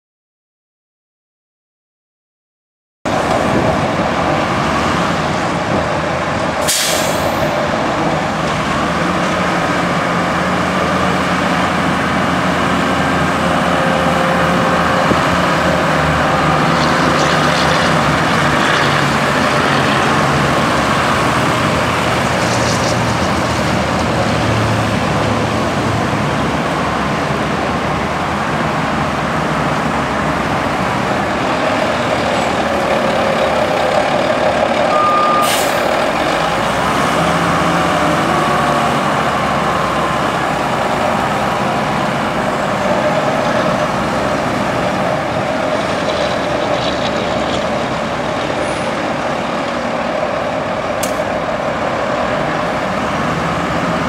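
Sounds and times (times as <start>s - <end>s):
diesel engine running: 3.1s - 54.0s.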